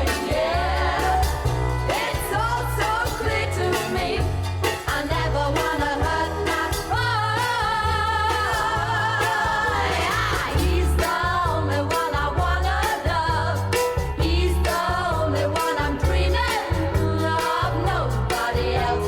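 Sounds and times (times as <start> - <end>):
female vocal trio singing: 0.0 - 19.0
steady bass line: 0.0 - 19.0.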